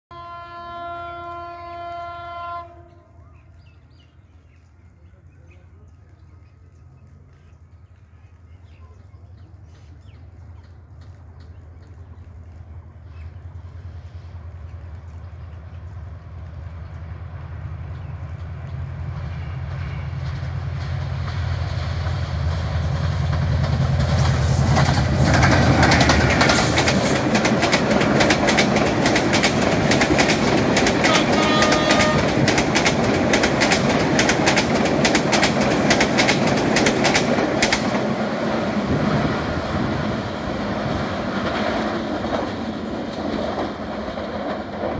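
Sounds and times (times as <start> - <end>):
locomotive engine drone: 0.3 - 44.9
train wheels clickety-clack: 7.1 - 17.0, 17.9 - 40.0, 40.7 - 44.9.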